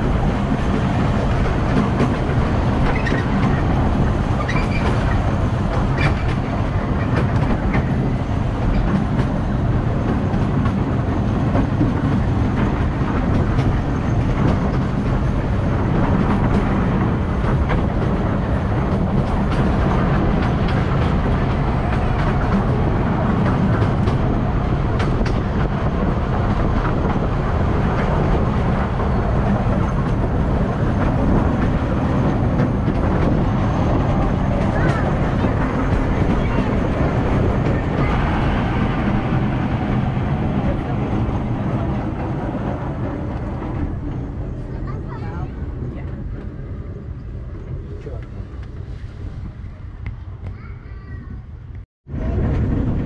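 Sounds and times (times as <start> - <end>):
train wheels running on rails: 0.0 - 53.0.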